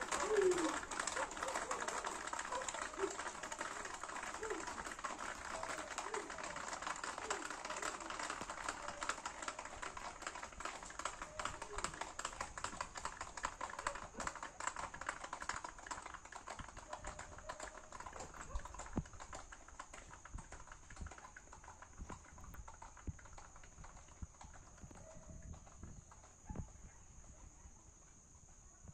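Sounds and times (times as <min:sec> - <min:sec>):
horse hooves on concrete: 0:00.0 - 0:28.9.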